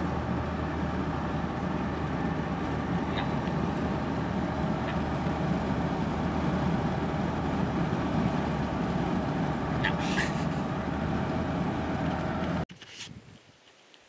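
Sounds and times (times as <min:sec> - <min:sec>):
low engine hum: 0:00.0 - 0:12.7
road noise: 0:00.0 - 0:12.7.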